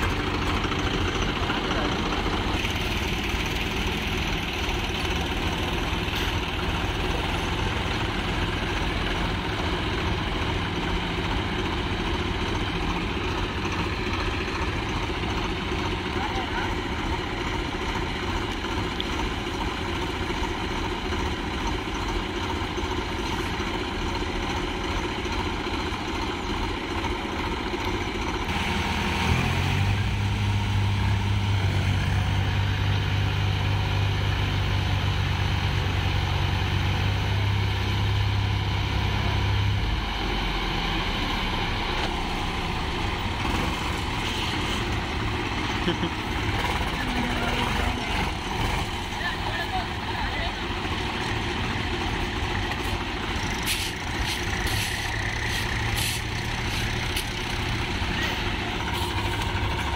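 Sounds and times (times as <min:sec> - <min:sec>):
tractor diesel engines running: 0:00.0 - 0:59.9.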